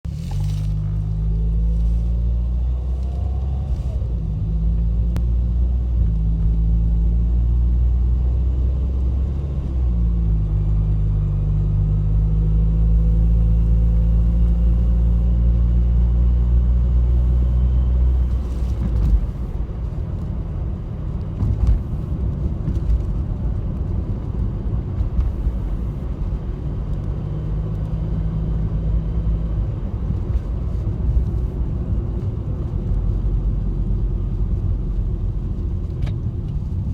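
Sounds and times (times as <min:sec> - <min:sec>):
car engine drone: 0:00.0 - 0:36.9.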